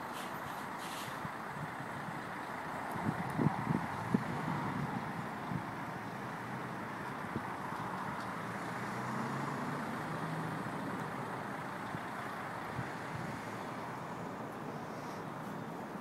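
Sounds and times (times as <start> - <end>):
road vehicle rumble: 0.0 - 16.0.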